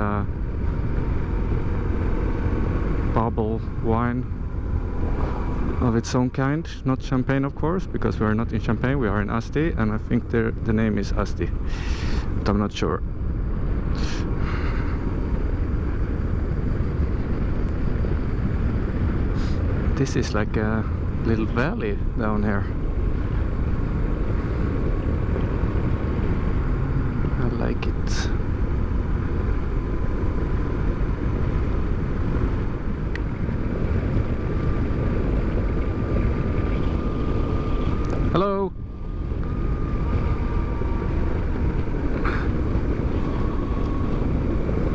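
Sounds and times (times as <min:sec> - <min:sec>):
faint steady whine: 0:00.0 - 0:44.9
motorcycle engine drone: 0:00.0 - 0:44.9
rushing wind: 0:00.0 - 0:44.9.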